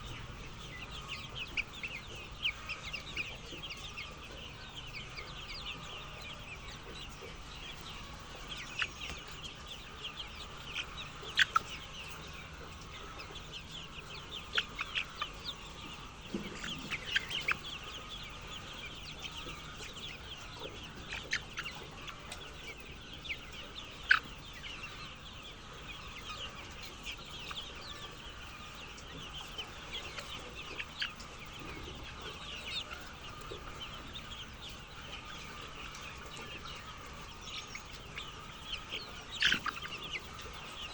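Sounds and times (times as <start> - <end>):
chickens clucking: 0.0 - 40.9
sharp chicken calls: 0.0 - 40.9.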